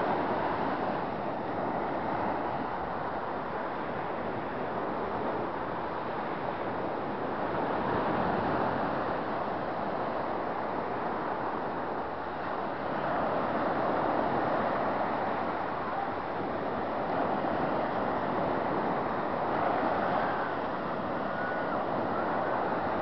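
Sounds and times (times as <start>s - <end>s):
surf breaking on a beach: 0.0s - 23.0s.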